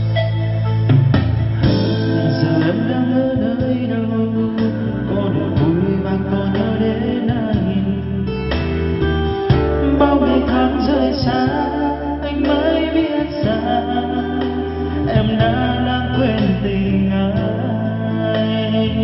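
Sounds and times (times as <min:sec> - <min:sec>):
song through karaoke speaker: 0:00.0 - 0:19.0.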